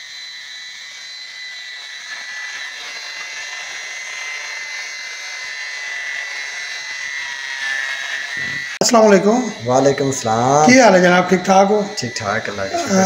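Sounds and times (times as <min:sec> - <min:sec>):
angle grinder whining on stone: 0:00.0 - 0:13.0.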